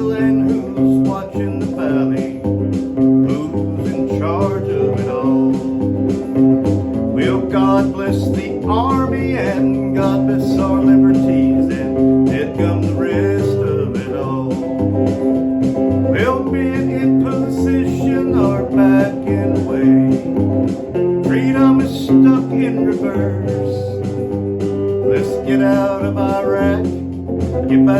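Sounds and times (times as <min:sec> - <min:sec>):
country music with guitar: 0:00.0 - 0:27.9.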